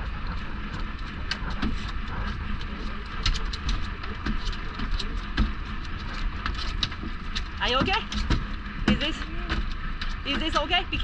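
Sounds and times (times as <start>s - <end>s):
boat engine rumble: 0.0s - 11.0s
water noise: 0.0s - 11.0s
wind: 0.0s - 11.0s
sharp clicks and knocks: 0.2s - 11.0s.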